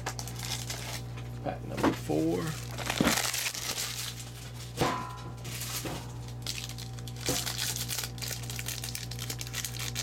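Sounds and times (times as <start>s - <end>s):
card pack crinkling: 0.0s - 1.2s, 2.2s - 4.8s, 5.5s - 10.0s
steady low hum: 0.0s - 10.0s.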